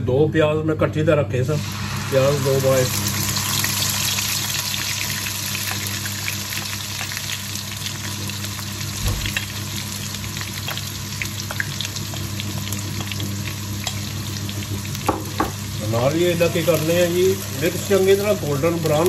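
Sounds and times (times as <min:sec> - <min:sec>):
onions sizzling in hot oil: 0:01.6 - 0:19.0.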